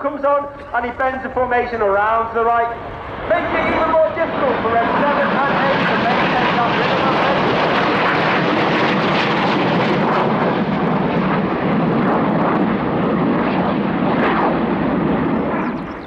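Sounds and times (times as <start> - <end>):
jets flying by: 0.0 - 16.0.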